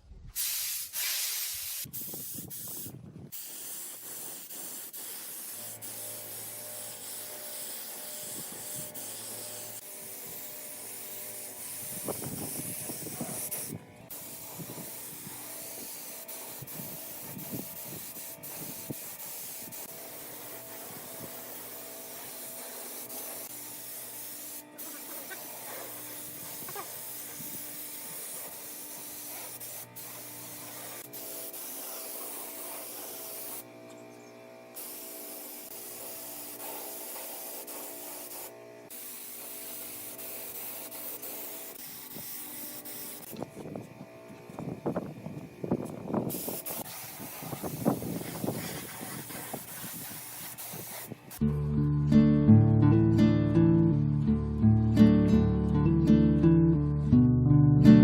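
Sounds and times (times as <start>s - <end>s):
spray gun hissing: 0.4s - 33.7s, 34.7s - 43.7s, 45.6s - 51.4s.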